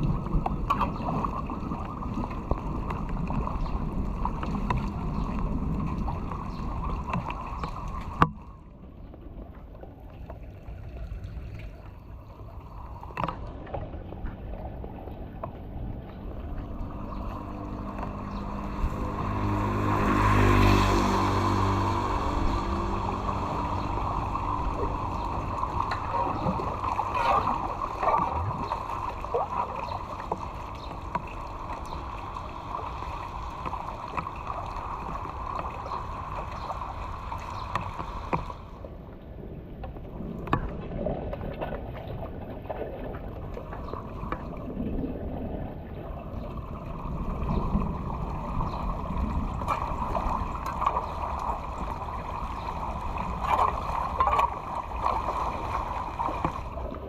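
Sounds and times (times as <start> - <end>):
floodwater rushing through drain: 0.0 - 38.9, 40.0 - 57.0.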